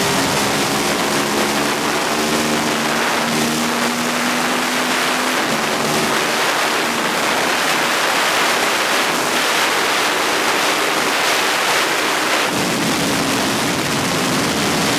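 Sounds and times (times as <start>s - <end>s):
heavy wind rush: 0.0s - 14.9s
motorcycle engine: 0.0s - 14.9s.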